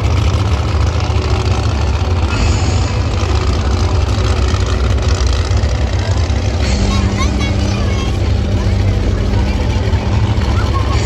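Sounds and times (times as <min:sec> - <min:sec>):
monster truck engines running: 0:00.0 - 0:11.0.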